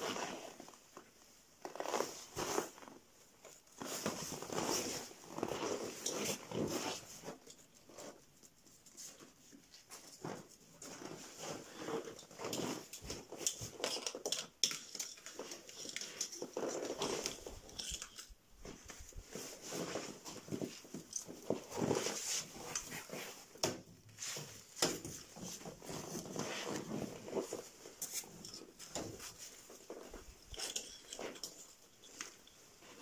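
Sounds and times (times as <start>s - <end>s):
rustling: 0.0s - 33.0s.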